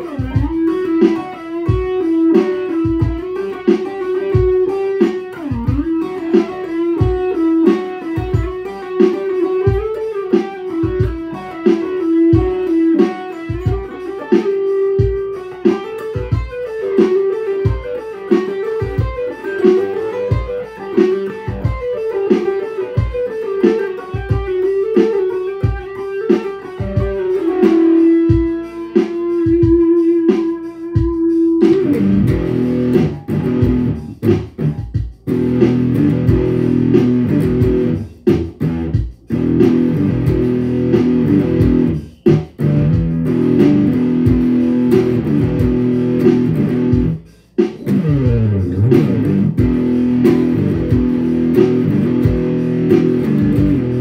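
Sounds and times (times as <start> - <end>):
electric guitar riffs: 0.0 - 54.0.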